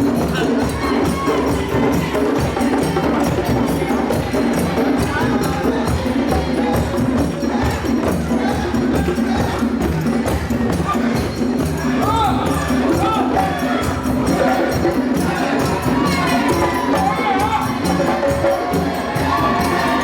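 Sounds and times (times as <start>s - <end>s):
bell or shaker: 0.0s - 20.0s
drum ensemble playing: 0.0s - 20.0s.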